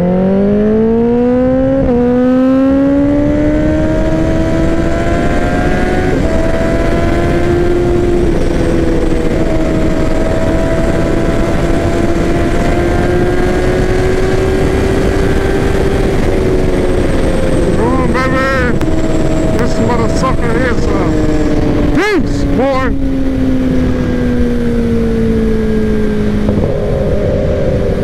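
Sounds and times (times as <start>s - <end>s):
motorcycle engine revving high: 0.0s - 28.0s
wind rushing over microphone: 0.0s - 28.0s.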